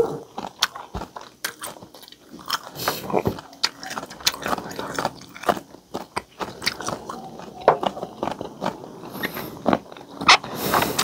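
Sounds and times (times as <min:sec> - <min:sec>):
man chewing crunchy food: 0:00.0 - 0:11.0.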